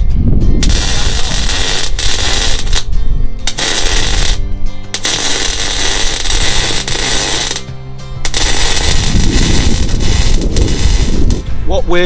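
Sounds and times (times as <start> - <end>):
arc welding crackling hiss: 0.6 - 11.4.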